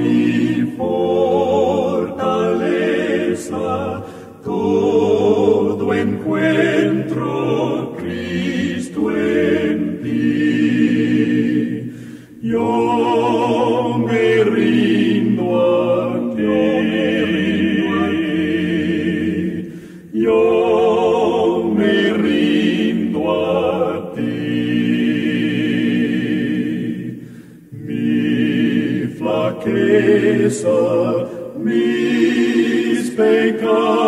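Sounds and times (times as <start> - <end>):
male vocal quartet singing a hymn: 0.0 - 34.0.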